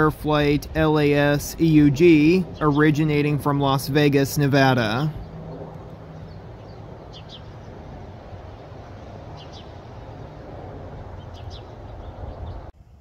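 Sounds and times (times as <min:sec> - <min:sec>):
birds chirping: 0:00.0 - 0:12.8
airliner rumble overhead: 0:00.0 - 0:13.0.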